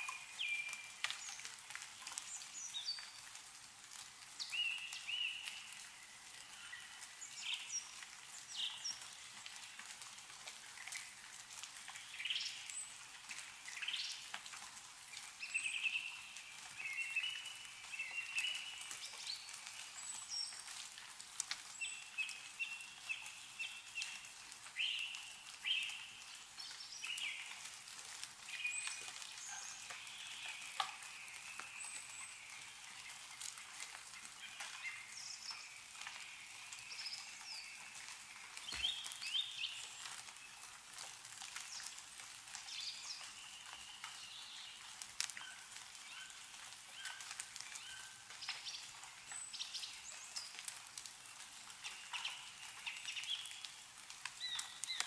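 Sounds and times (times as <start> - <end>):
small birds chirping and trilling: 0.0 - 9.8, 10.5 - 14.4, 15.0 - 20.9, 21.5 - 55.0
meltwater dripping: 0.0 - 55.0.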